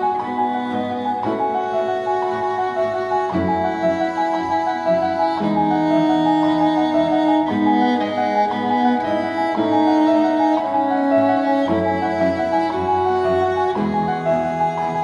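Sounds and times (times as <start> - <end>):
bowed string chords: 0.0 - 15.0.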